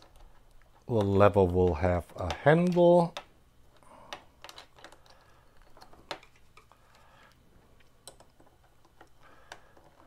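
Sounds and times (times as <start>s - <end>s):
plastic bricks clicking: 0.0s - 10.0s.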